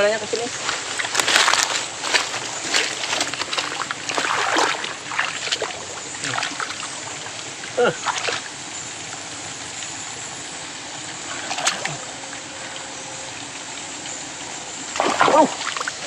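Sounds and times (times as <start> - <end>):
water disturbances: 0.0 - 16.0
water trickling: 0.0 - 16.0.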